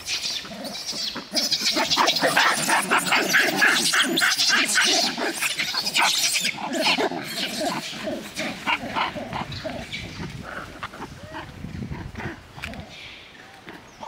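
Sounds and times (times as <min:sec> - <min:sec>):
macaques shrieking: 0:00.0 - 0:11.5.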